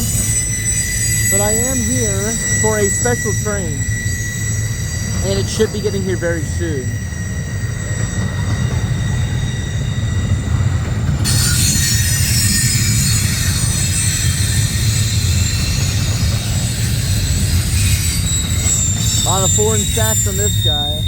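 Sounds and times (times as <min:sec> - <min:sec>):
harsh screech and hiss: 0:00.0 - 0:08.0, 0:11.3 - 0:21.0
train wheels rumbling on rail: 0:00.0 - 0:21.0
wheel squeal: 0:00.0 - 0:21.0.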